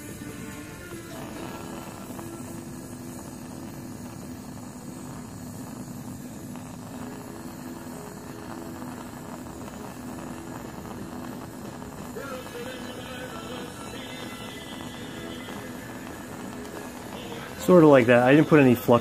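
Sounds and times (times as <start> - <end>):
torch flame rushing: 0.0 - 19.0.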